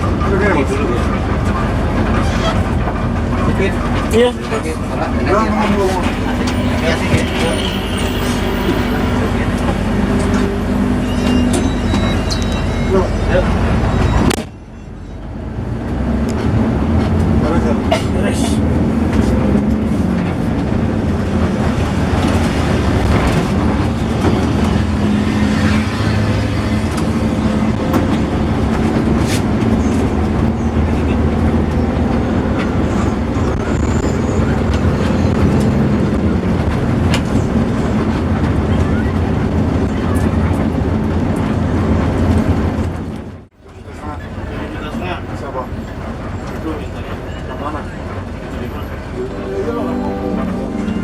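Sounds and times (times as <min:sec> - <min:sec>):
bus engine and road noise: 0:00.0 - 0:51.0.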